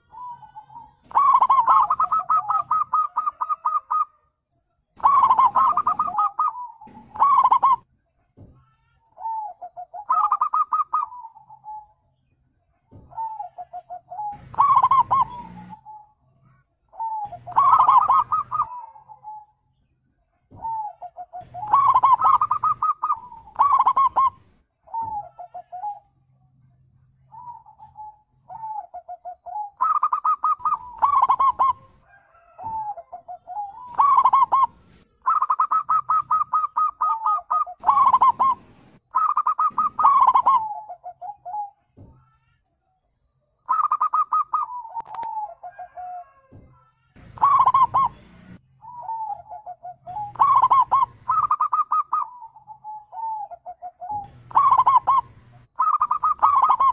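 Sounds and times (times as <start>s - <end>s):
dove cooing: 0.0s - 4.2s, 5.0s - 7.9s, 8.7s - 12.0s, 12.8s - 19.6s, 20.4s - 26.1s, 27.3s - 42.6s, 43.7s - 56.9s.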